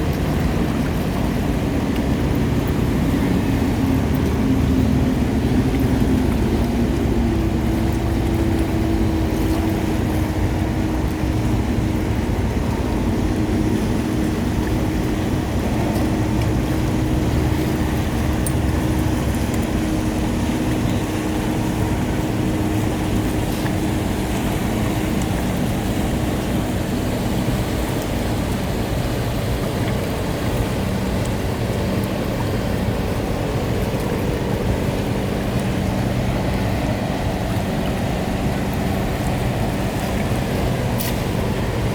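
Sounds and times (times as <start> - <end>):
engine rumble and hum: 0.0 - 41.9.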